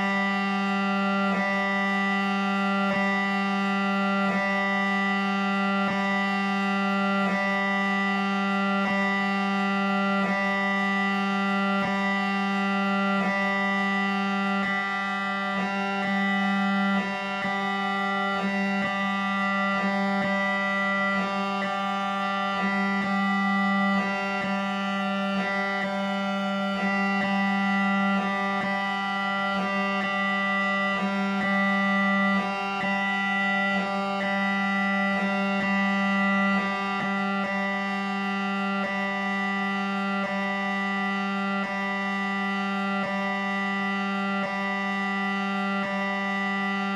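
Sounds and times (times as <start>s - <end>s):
electronic drone: 0.0s - 46.9s.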